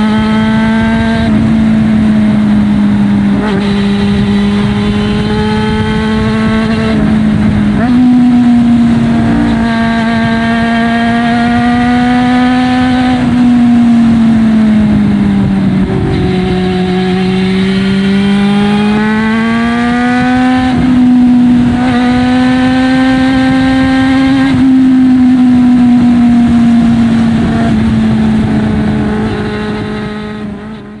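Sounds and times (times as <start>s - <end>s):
motorcycle engine at high revs: 0.0s - 31.0s.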